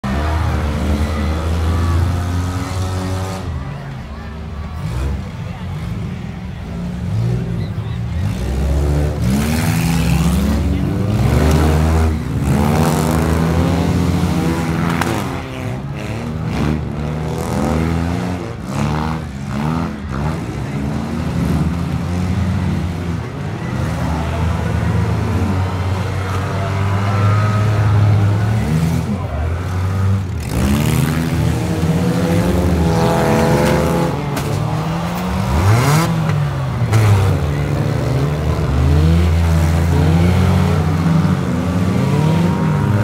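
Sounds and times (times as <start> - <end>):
race car engines revving: 0.0 - 43.0.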